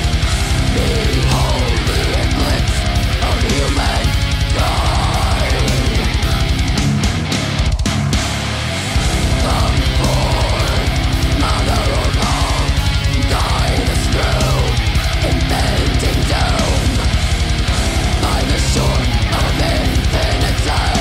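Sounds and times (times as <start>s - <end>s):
distorted guitars: 0.0s - 21.0s.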